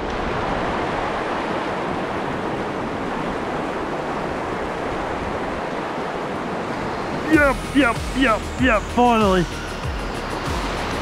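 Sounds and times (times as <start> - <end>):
river rushing over rapids: 0.0 - 11.0.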